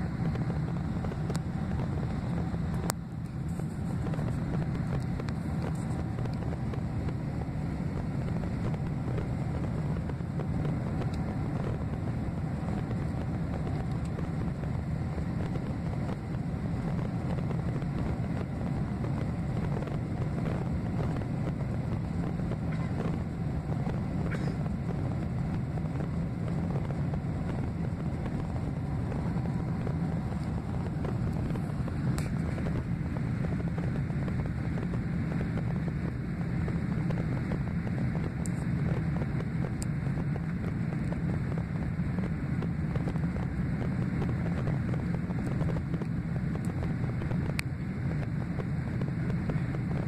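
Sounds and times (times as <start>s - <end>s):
jet engines droning: 0.0s - 50.0s.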